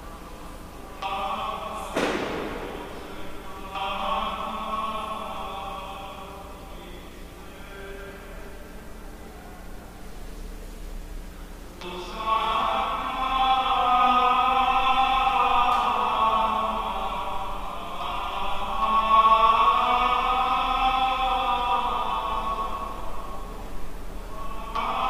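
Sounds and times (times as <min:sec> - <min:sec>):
chant-like choir singing: 0:00.8 - 0:08.6, 0:11.8 - 0:25.0.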